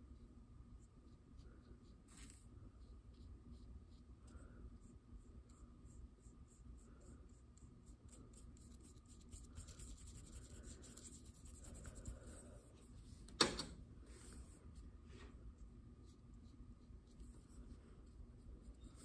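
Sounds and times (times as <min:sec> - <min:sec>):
paintbrush scratching: 0:01.0 - 0:04.2, 0:04.8 - 0:13.2, 0:14.1 - 0:19.0.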